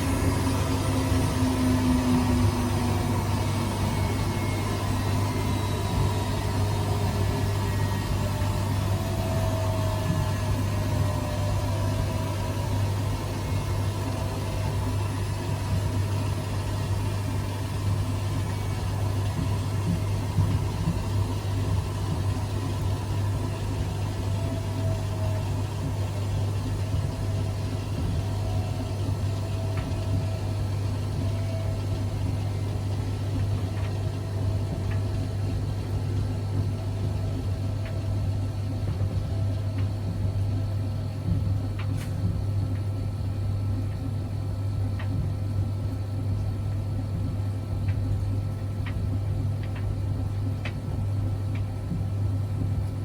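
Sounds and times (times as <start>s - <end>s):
washing machine humming: 0.0s - 53.0s.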